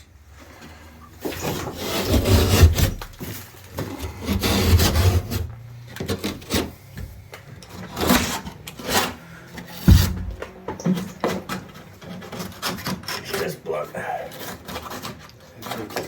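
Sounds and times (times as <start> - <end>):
utility knife cutting plasterboard: 1.2 - 7.0, 7.6 - 16.0.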